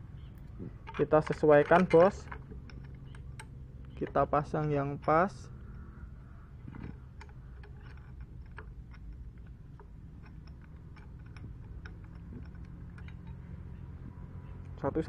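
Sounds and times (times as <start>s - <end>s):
low hum: 0.0s - 15.0s
metal plate clicks: 0.2s - 5.9s, 6.6s - 14.8s.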